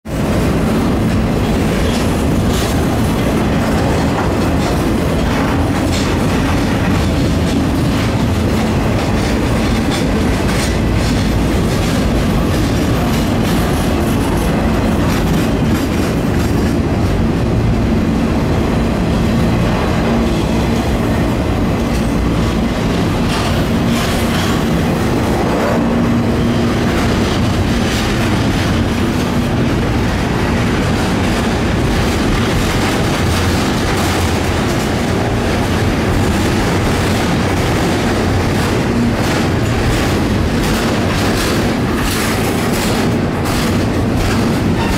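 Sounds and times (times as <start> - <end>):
freight train wheels rumbling: 0.0 - 44.9
train wheel clicks: 0.1 - 44.9.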